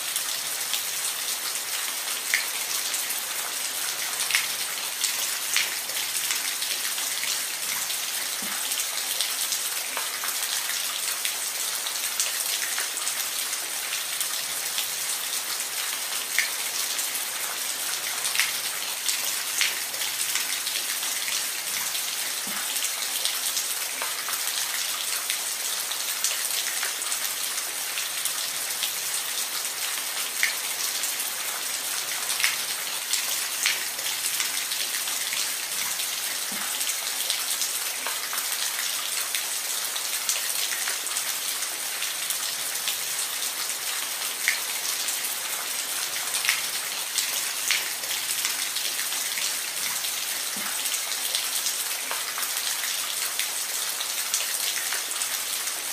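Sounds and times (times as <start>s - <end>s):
steady rain hiss: 0.0s - 55.9s.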